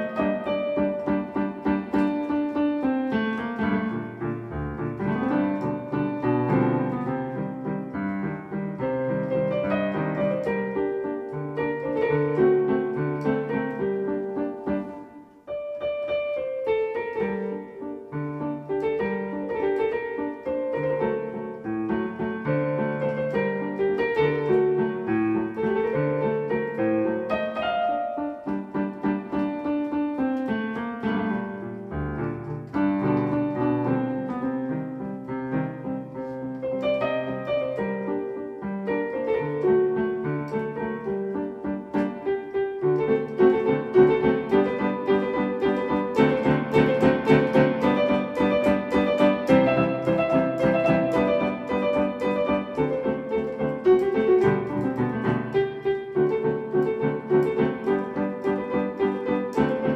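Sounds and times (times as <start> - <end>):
electronic keyboard waltz: 0.0 - 59.9.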